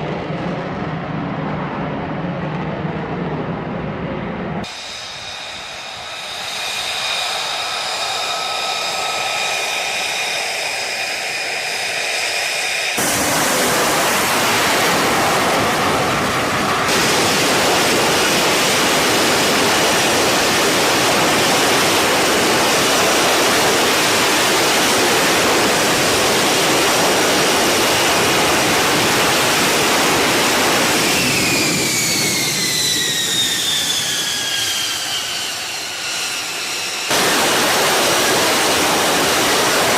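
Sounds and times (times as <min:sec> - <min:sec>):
jet engine rush: 0:00.0 - 0:39.9
jet engine whine: 0:00.0 - 0:39.9.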